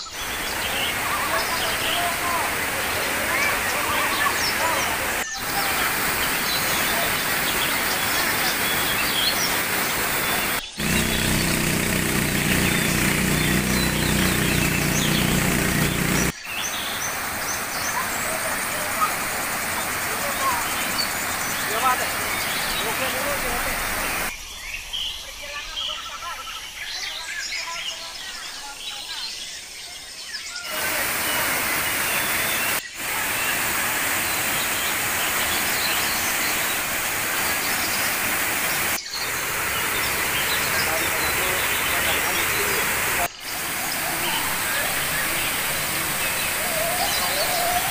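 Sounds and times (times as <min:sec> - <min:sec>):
birds chirping: 0:00.0 - 0:47.9
waterfall rushing: 0:00.2 - 0:24.3, 0:30.7 - 0:47.9.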